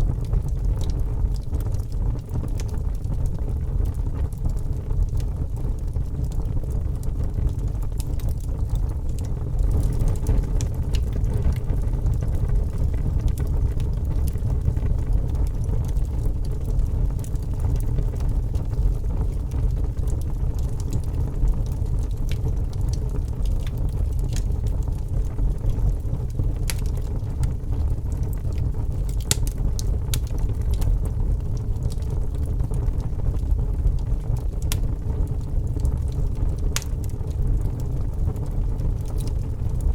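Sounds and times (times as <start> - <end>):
fire flames rumbling: 0.0 - 39.9
wood crackling and popping: 0.0 - 39.9.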